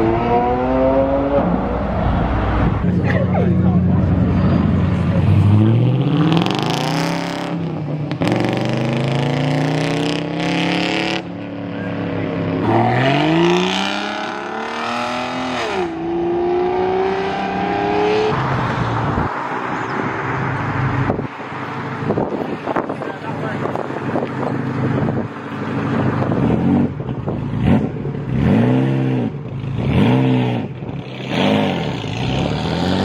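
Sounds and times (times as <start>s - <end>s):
car engine accelerating hard: 0.0s - 21.3s, 21.9s - 33.0s.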